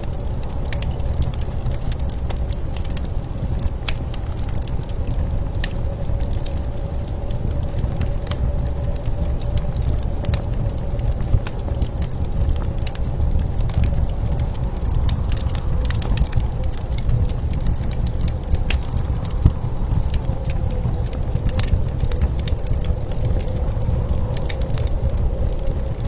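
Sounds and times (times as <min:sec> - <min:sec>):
blizzard wind rumble: 0:00.0 - 0:26.0
wood fire crackling: 0:00.0 - 0:26.0
faint wind whistle: 0:04.5 - 0:26.0.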